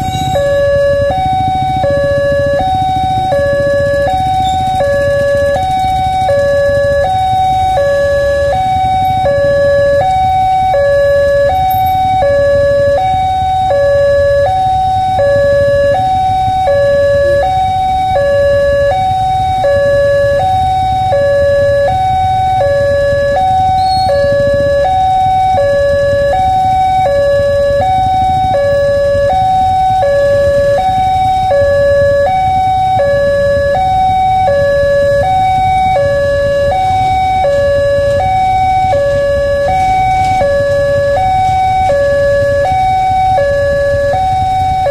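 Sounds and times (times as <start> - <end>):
two-tone level crossing siren: 0.0 - 44.9.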